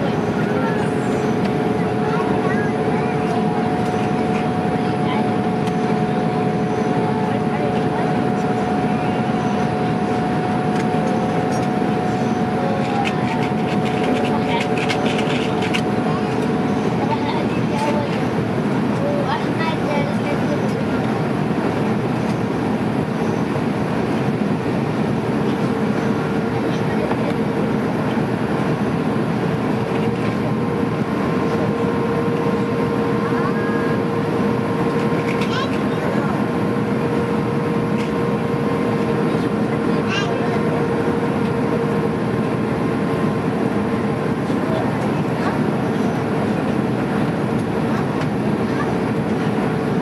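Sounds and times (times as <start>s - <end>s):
aircraft cabin engine and airflow rush: 0.0s - 50.0s
constant high whine: 0.0s - 50.0s.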